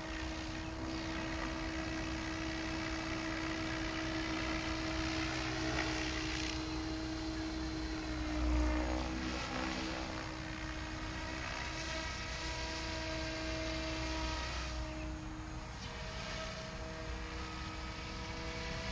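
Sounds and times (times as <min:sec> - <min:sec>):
rc helicopter rotor whine: 0:00.0 - 0:18.9.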